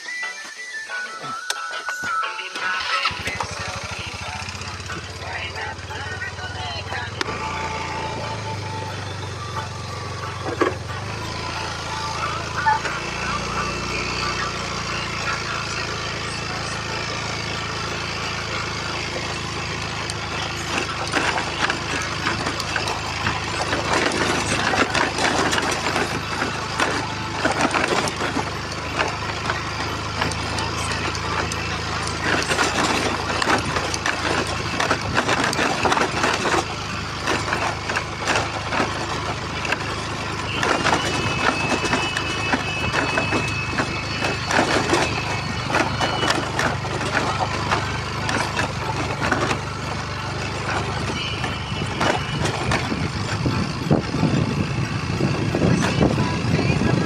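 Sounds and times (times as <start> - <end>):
vehicle engine running: 2.6 - 57.0
dense crackling and rattling: 2.7 - 57.0.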